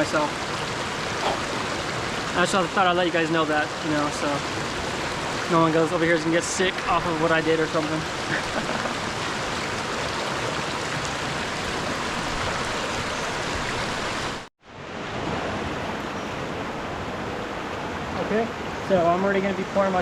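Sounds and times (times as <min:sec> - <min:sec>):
mountain river rushing: 0:00.0 - 0:20.0.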